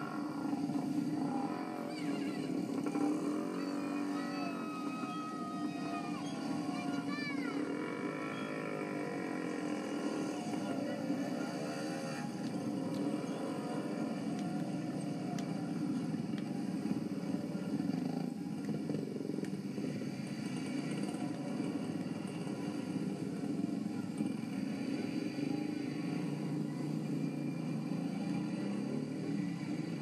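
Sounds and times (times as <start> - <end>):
traffic engines passing: 0.0 - 30.0.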